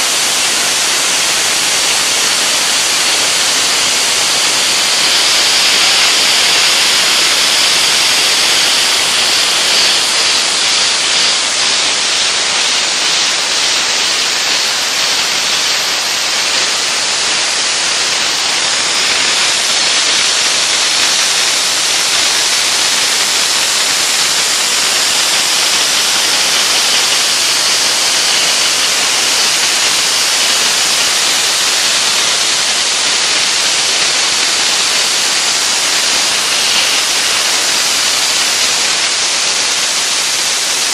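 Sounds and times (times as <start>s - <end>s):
dry ice blasting nozzle hissing: 0.0s - 40.9s.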